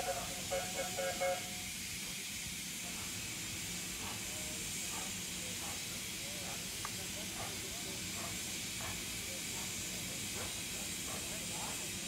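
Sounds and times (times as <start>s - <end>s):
distant steam locomotive hiss: 0.0s - 12.0s.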